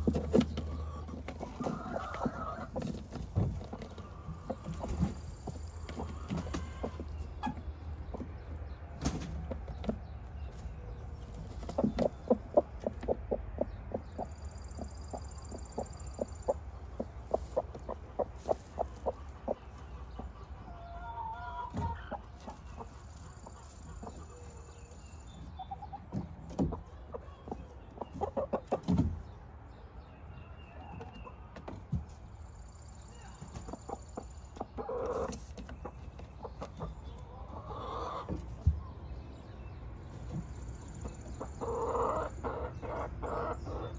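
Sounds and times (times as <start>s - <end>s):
hen clucking: 0.0s - 29.4s, 33.2s - 43.9s.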